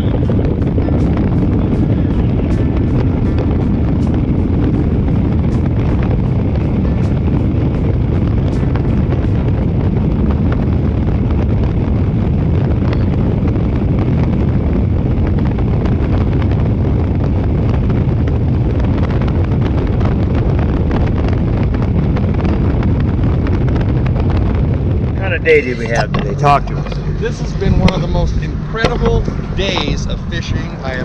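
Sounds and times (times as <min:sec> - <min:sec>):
boat engine rumble: 0:00.0 - 0:31.0
wind on microphone: 0:00.0 - 0:31.0.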